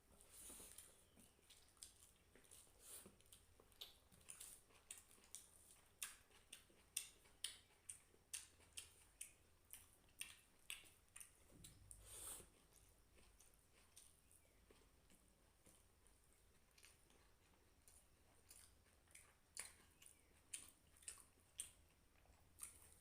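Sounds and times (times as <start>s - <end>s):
close-up chewing: 0.0s - 23.0s.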